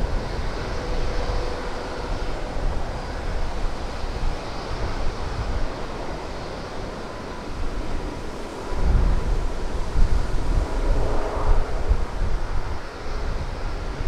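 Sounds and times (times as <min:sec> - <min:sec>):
distant jet engine roar: 0:00.0 - 0:14.0
wind buffeting microphone: 0:00.0 - 0:14.0.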